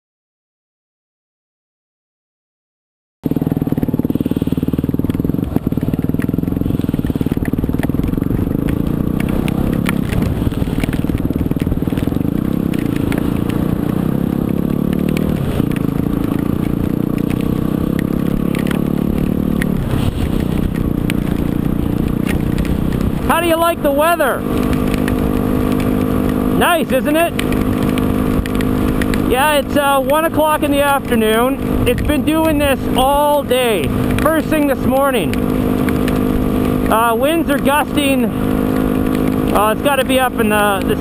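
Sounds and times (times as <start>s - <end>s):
motorcycle engine running: 3.2s - 41.0s
tyres rolling over wet gravel: 3.3s - 41.0s.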